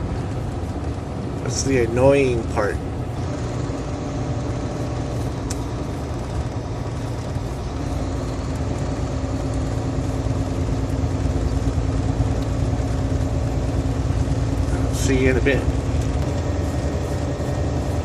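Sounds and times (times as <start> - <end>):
truck engine and road drone: 0.0 - 18.0
steady hum: 2.5 - 18.0.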